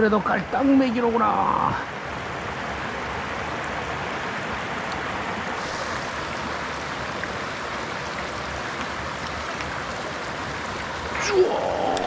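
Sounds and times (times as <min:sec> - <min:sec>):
stream water flowing over rocks: 0:00.0 - 0:12.0.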